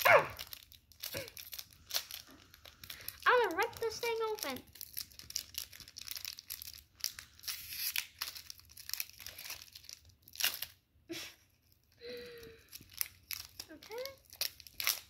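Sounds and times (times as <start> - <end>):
foil wrapper tearing and crinkling: 0.0 - 10.8, 11.7 - 15.0.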